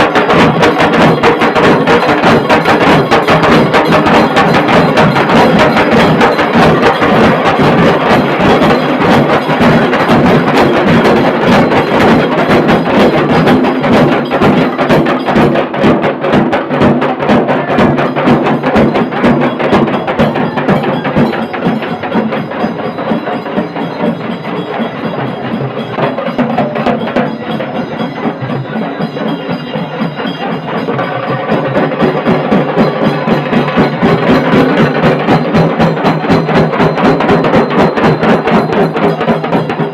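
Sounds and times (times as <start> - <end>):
drums beaten with sticks: 0.0 - 39.9
large barrel drum: 0.0 - 39.9.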